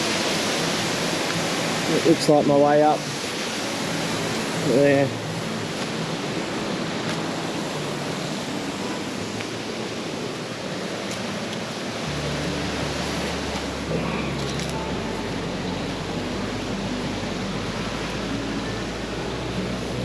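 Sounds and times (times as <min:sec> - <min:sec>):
creek water flowing over rocks: 0:00.0 - 0:20.0.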